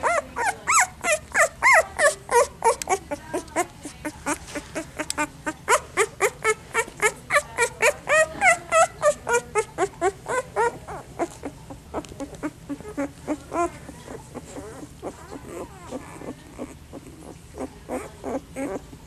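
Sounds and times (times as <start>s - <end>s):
puppies whimpering and squealing: 0.0s - 19.0s.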